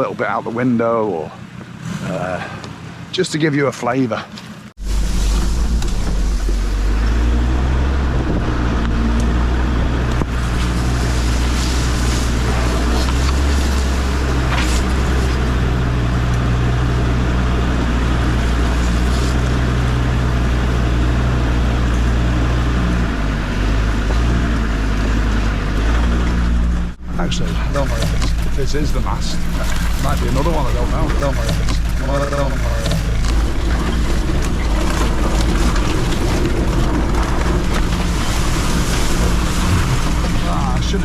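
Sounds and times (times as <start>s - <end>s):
diesel engine pulling: 0.0s - 41.0s.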